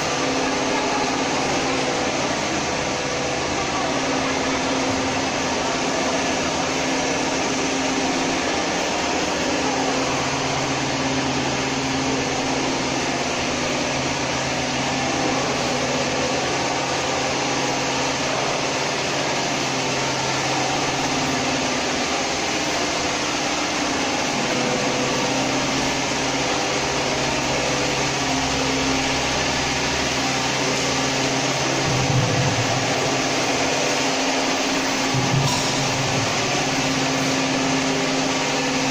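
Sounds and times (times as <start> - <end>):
loud machinery hiss: 0.0 - 38.9
low machinery hum: 0.0 - 38.9.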